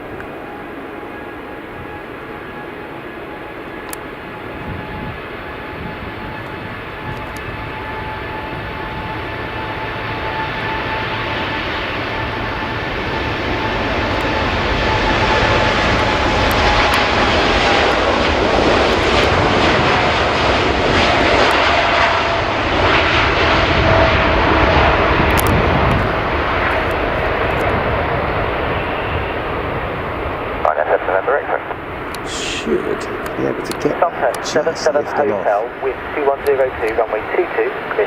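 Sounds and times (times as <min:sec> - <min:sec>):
jet engine whine: 0:00.0 - 0:38.0
jet engines roaring: 0:00.0 - 0:38.0.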